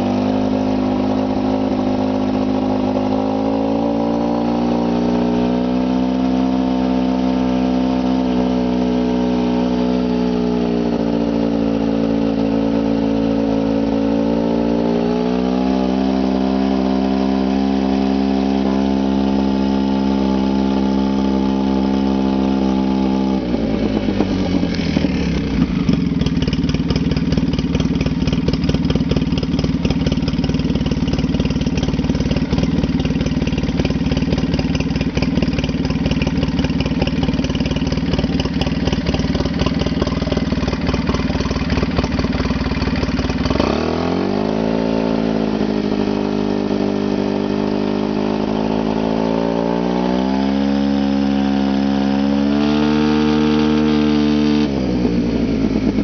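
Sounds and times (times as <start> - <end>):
quad engine running: 0.0 - 56.0.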